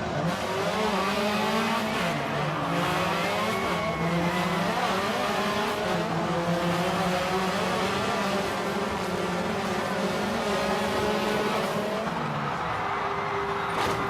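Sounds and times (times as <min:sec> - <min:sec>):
rally car engine revving: 0:00.0 - 0:12.6.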